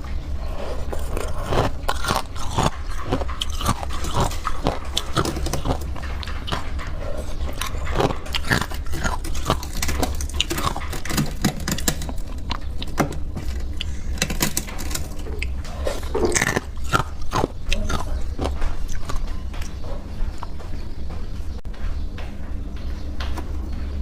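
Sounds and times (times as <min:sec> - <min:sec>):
chewing crunches and clicks: 0:00.0 - 0:21.6
low steady hum: 0:00.0 - 0:24.0.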